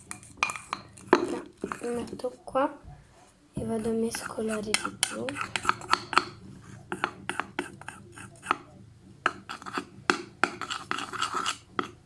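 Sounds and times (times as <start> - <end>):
spoon scraping a bowl: 0.0 - 2.4, 3.6 - 12.0.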